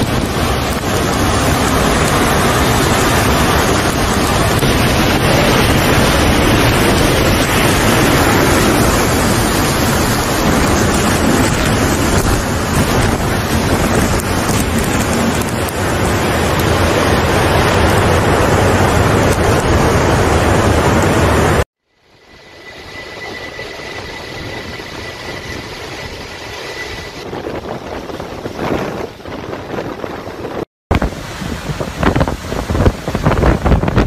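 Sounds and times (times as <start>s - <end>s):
driving rain: 0.0s - 21.6s, 27.4s - 34.0s
hurricane-force wind: 0.0s - 21.6s, 22.4s - 34.0s
wind buffeting microphone: 0.0s - 21.6s, 27.0s - 34.0s.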